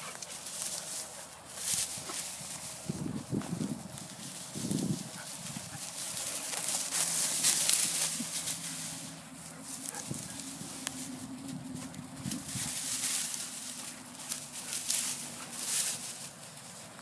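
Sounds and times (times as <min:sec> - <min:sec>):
footsteps through dry grass: 0:00.0 - 0:17.0.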